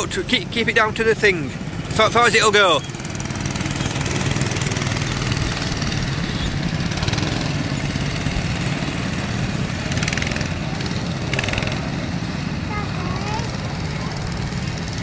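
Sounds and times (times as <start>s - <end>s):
go-kart engines running: 0.0s - 15.0s.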